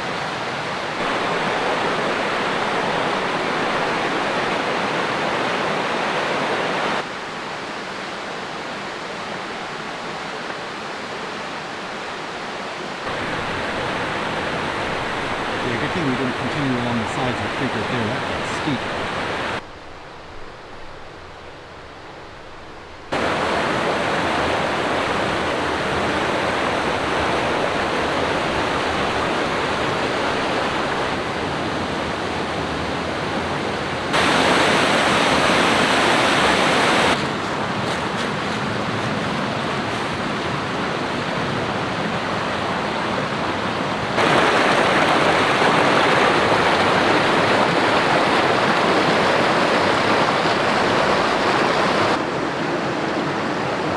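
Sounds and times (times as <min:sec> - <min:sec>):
creek rushing over boulders: 0:00.0 - 0:53.9.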